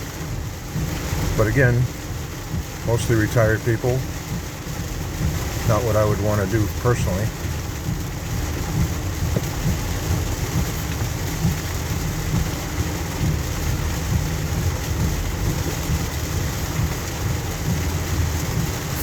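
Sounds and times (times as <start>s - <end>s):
car rumbling on wet road: 0.0s - 19.0s
heavy rain on car: 0.0s - 19.0s.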